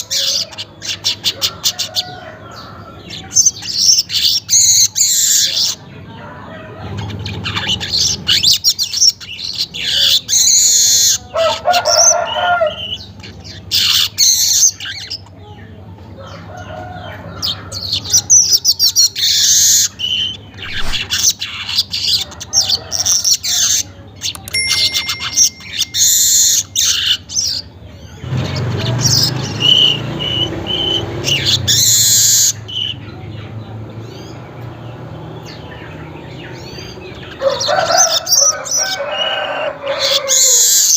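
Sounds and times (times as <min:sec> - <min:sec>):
bird chattering and trilling: 0:00.0 - 0:05.9, 0:06.9 - 0:16.6, 0:17.2 - 0:40.9.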